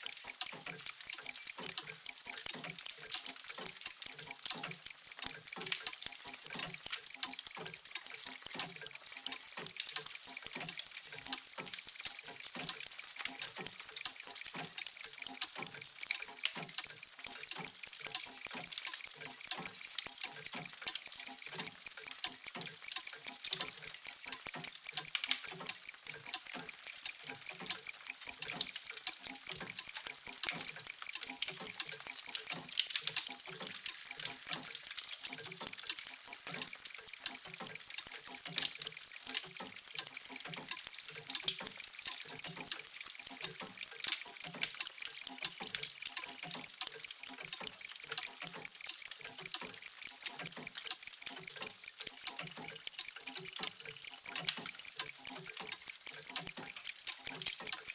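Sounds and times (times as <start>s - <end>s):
mechanical clocks ticking: 0.0s - 57.9s.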